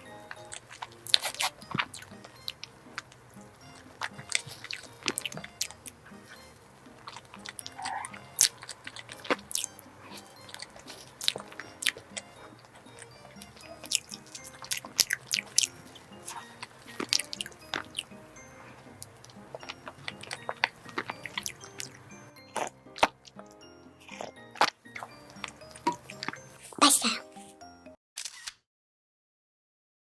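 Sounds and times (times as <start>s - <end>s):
quiet background music: 0.0s - 28.0s
soft chewing with mouth clicks: 0.3s - 23.1s, 24.0s - 26.8s.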